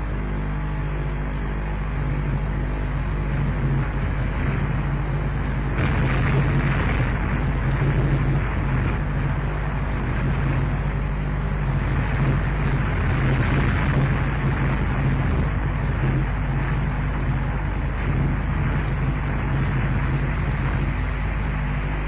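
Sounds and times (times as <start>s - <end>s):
constant low hum: 0.0s - 22.0s
rushing wind on microphone: 2.0s - 22.0s.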